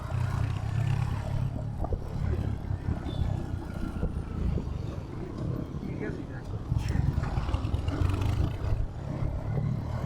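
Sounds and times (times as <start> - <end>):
road and traffic noise: 0.0 - 10.0.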